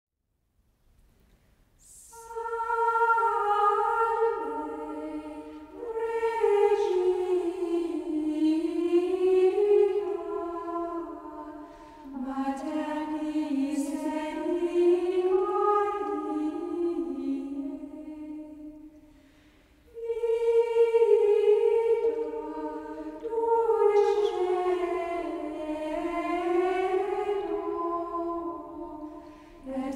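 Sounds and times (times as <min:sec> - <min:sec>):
slow vocal chant: 0:01.8 - 0:29.9.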